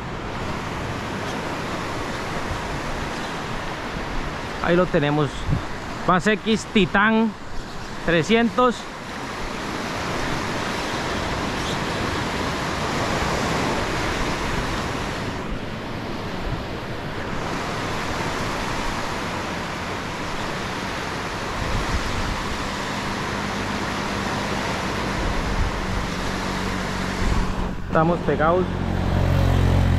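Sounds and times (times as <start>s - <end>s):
ocean surf breaking on beach: 0.0s - 29.9s.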